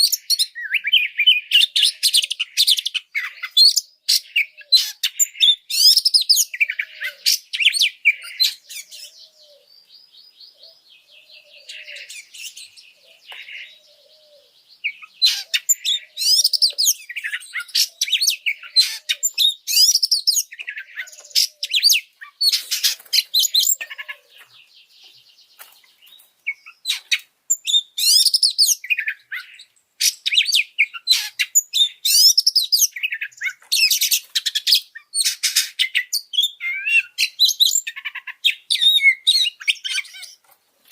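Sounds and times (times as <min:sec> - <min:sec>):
songbird chirps and whistles: 0:00.0 - 0:40.4.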